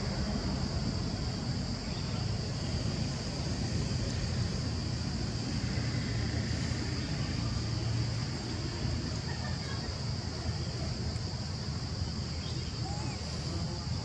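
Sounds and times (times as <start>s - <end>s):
constant high hiss: 0.0s - 14.0s.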